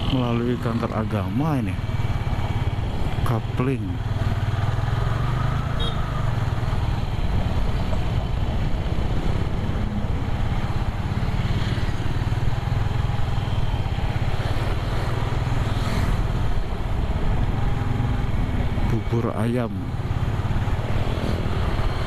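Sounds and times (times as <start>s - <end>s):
motorcycle engine running: 0.0s - 18.9s
wind and road noise: 0.0s - 22.0s.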